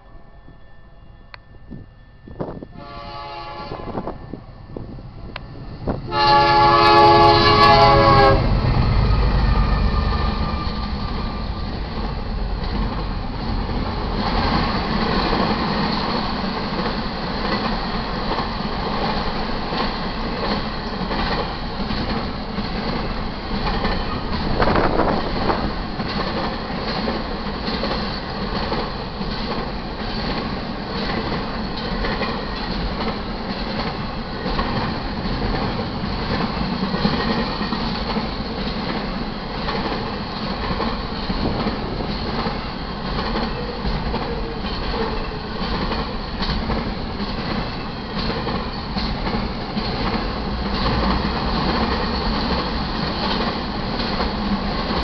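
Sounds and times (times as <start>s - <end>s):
freight train wheels clattering: 5.3s - 55.0s.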